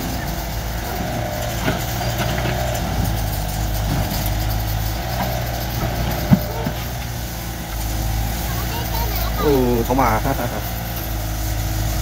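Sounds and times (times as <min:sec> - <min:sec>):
excavator digging soil: 0:00.0 - 0:12.0
excavator engine running: 0:00.0 - 0:12.0.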